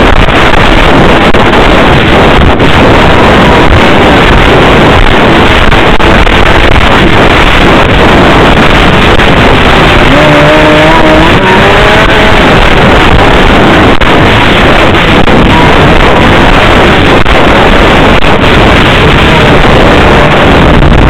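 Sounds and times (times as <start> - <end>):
snowmobile engine running: 0.0 - 21.0
wind noise on microphone: 0.0 - 21.0.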